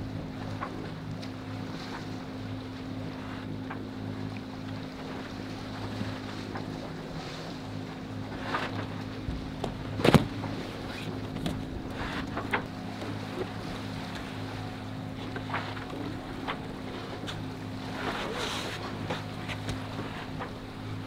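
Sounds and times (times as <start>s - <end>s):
steady low hum: 0.0s - 21.0s
water noise: 0.0s - 21.0s
wind: 0.0s - 21.0s.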